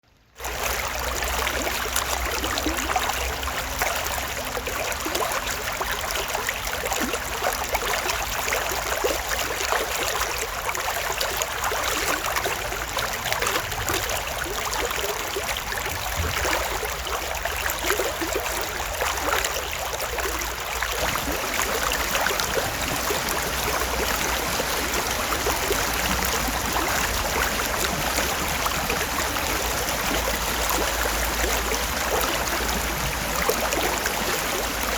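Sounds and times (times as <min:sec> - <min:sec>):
stream water flowing: 0:00.1 - 0:34.9
small water splashes: 0:00.4 - 0:34.9.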